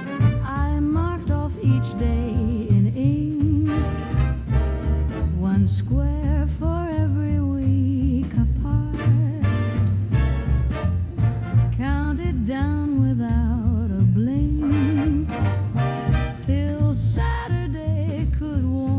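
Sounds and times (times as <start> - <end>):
swing dance band music: 0.0 - 18.9.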